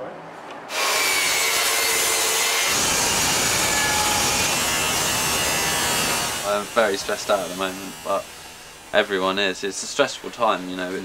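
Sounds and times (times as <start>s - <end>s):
power saw cutting board: 0.7s - 11.0s.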